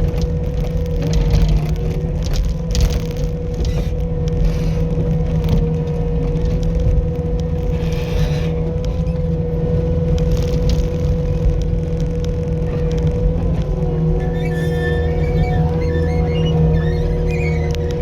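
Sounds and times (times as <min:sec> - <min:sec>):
loader engine running: 0:00.0 - 0:18.0
scrapes and crackles: 0:00.0 - 0:18.0
steady whine: 0:00.0 - 0:18.0.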